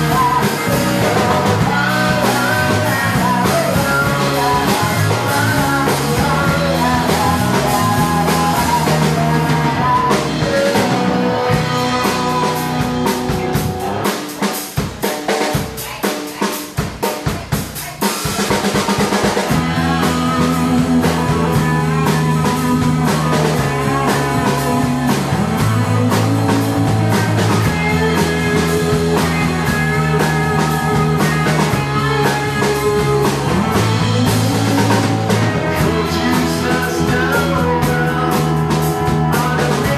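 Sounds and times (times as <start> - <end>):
drum kit break: 0.0 - 39.9
live rock band playing: 0.0 - 39.9.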